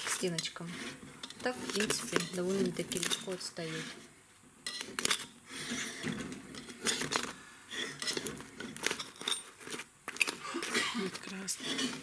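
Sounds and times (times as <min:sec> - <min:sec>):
knife scraping metal pot: 0:00.0 - 0:12.0.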